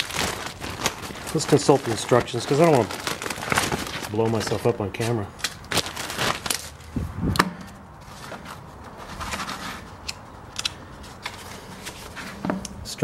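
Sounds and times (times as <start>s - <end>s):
paper rustling and small bumps: 0.0s - 6.9s, 7.6s - 10.1s, 10.9s - 12.6s.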